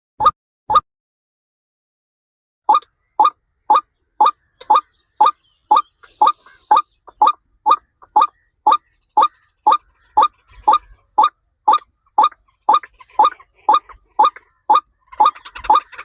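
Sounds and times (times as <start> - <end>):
bird calling: 2.7 - 16.0.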